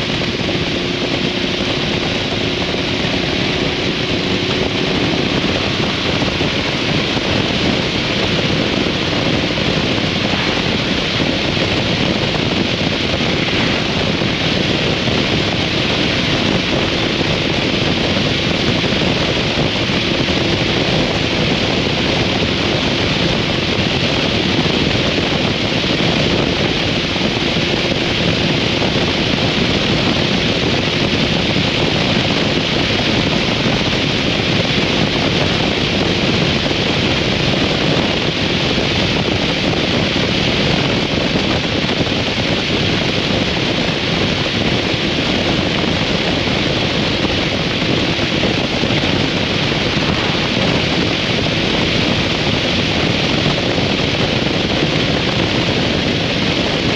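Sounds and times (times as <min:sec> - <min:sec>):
faint motorcycle engine: 0:00.0 - 0:56.9
wind rushing over microphone: 0:00.0 - 0:56.9.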